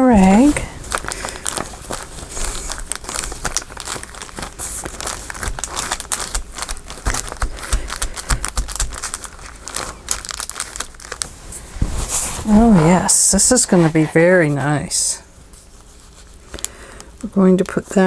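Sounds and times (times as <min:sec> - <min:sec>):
cloth rag rubbing paper: 0:00.0 - 0:10.0, 0:10.6 - 0:16.5
paper crinkling and rustling: 0:00.0 - 0:18.0.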